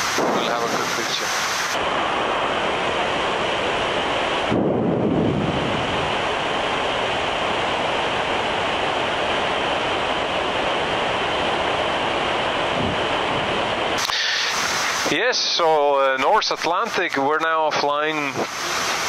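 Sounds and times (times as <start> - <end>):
cockpit airflow rushing: 0.0 - 16.4.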